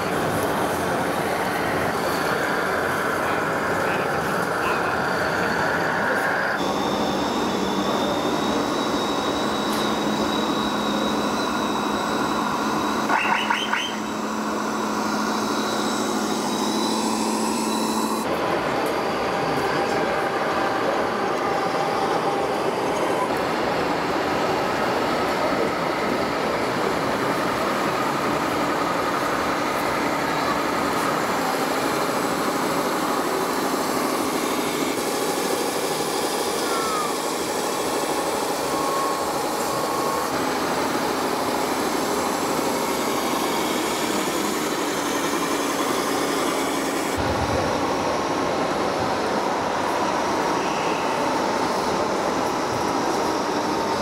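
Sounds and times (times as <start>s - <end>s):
hall rumbling noise: 0.0s - 54.0s.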